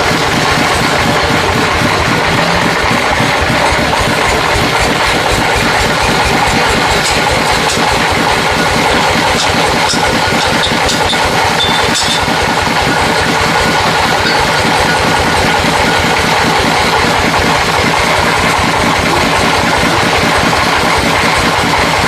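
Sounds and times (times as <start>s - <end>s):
engine chugging: 0.0s - 22.0s.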